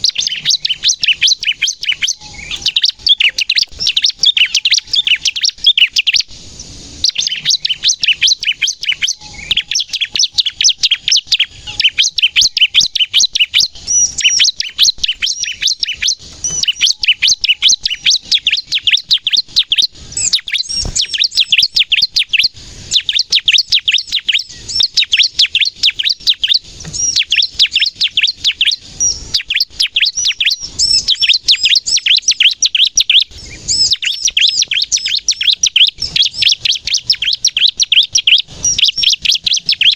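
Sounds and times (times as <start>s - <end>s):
bird rapid-fire chirping: 0.0s - 39.9s.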